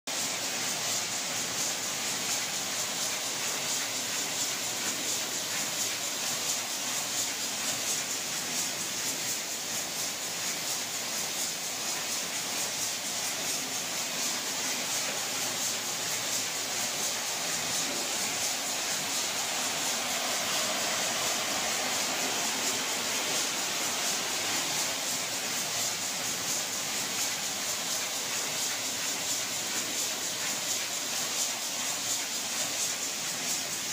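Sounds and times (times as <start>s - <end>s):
fast mechanical ticking: 0.1s - 33.9s
machine mechanical hiss: 0.1s - 33.9s.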